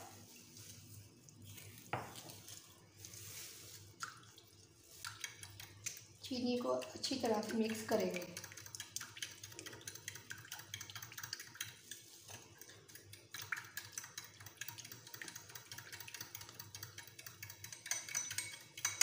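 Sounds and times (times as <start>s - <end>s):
fork stirring in glass bowl: 0.0s - 19.0s.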